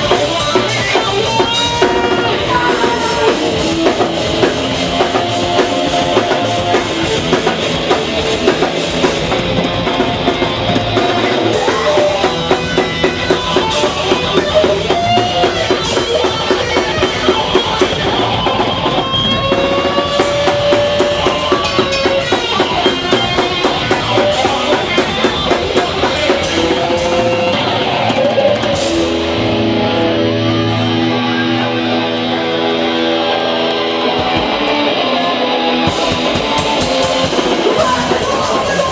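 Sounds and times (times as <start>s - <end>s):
held guitar chords ringing: 0.0s - 38.9s
punk band playing live: 0.0s - 38.9s.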